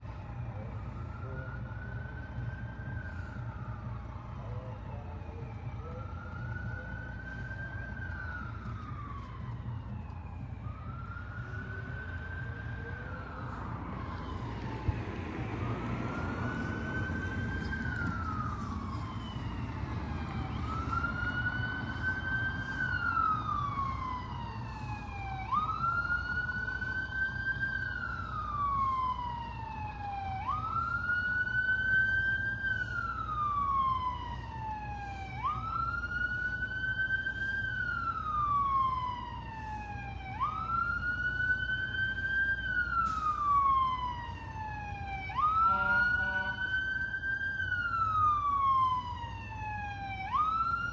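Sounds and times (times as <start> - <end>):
siren wailing: 0.1 - 50.9.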